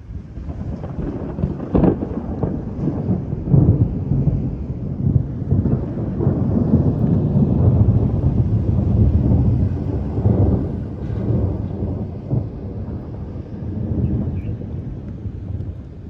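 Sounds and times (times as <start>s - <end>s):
rain: 0.0s - 16.0s
thunder rumbling: 0.0s - 16.0s
sharp thunder crack: 0.4s - 15.9s.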